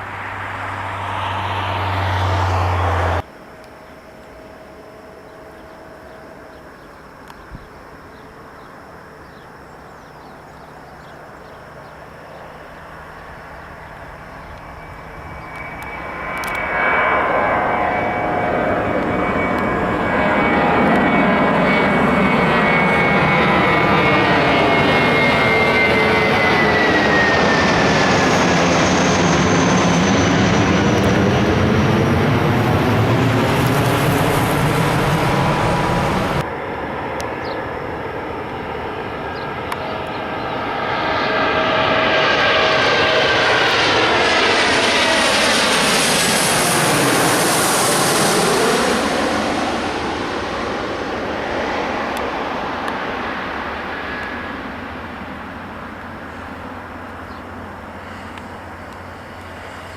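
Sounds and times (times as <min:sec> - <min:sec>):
jet airliner passing: 0:00.0 - 0:59.9.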